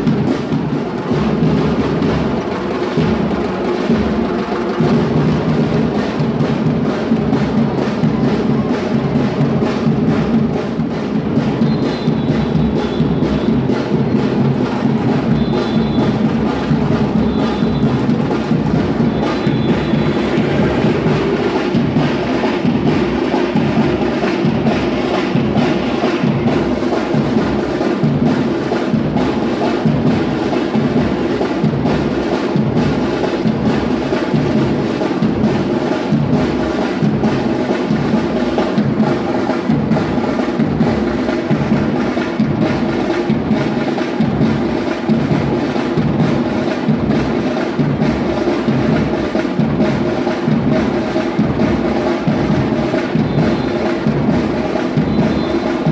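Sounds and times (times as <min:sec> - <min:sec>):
samba drum ensemble: 0:00.0 - 0:55.9.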